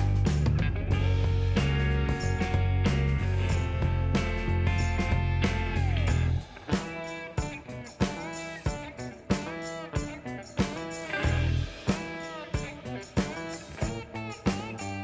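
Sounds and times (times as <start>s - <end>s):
guitar playing bent notes: 0.0s - 15.0s
steady beat: 0.0s - 15.0s.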